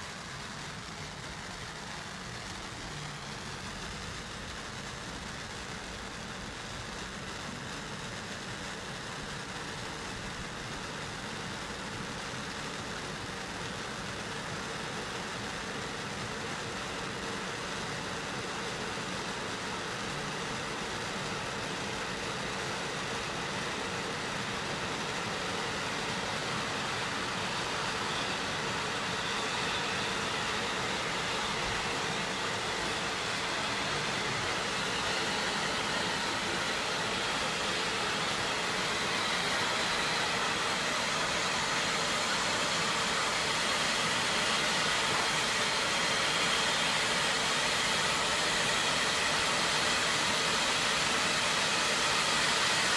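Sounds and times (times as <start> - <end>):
firework fountains hissing: 0.0 - 52.9.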